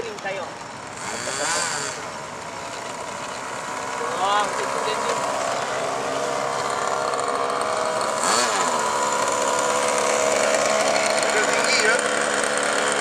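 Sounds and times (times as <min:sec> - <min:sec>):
model aircraft engine buzzing: 0:00.1 - 0:13.0.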